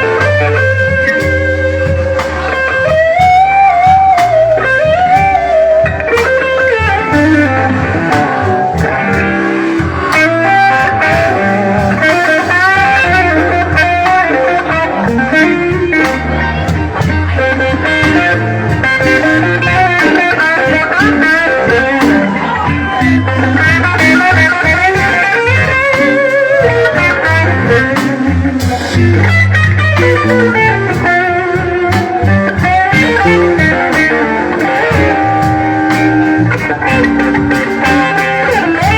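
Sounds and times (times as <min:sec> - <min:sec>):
bass guitar: 0:00.0 - 0:38.9
drums: 0:00.0 - 0:38.9
electric guitar solo: 0:00.0 - 0:38.9.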